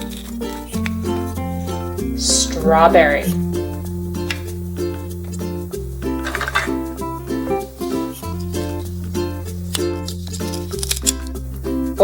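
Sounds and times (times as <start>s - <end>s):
plucked-string notes: 0.0s - 12.0s
sustained bass notes: 0.0s - 12.0s.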